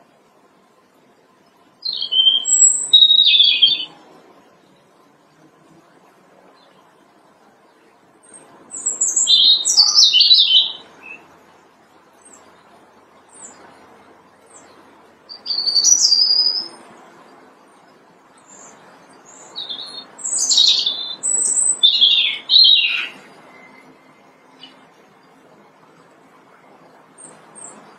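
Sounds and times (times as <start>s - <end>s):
robin singing: 1.3s - 5.1s, 5.7s - 16.9s, 17.7s - 27.9s.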